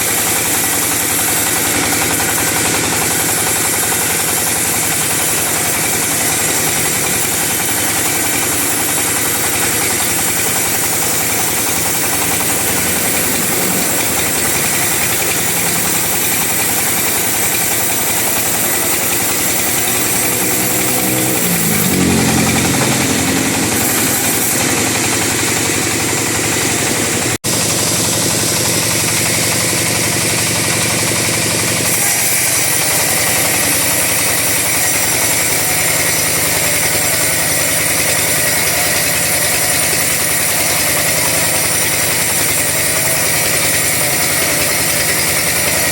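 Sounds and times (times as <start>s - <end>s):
chainsaw sawing a log: 0.0s - 45.9s.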